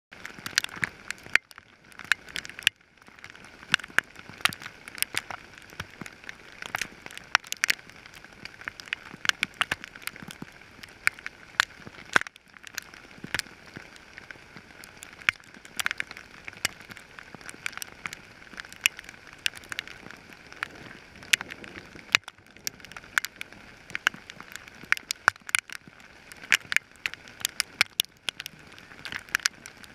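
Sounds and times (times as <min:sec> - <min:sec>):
hail pattering on ground: 0:00.2 - 0:29.9
hailstones clicking: 0:00.2 - 0:29.9.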